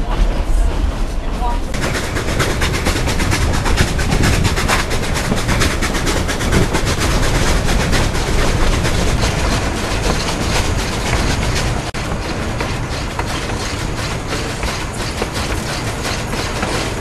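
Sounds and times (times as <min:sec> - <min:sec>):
train rumble: 0:00.0 - 0:17.0
wheels clattering: 0:00.0 - 0:17.0.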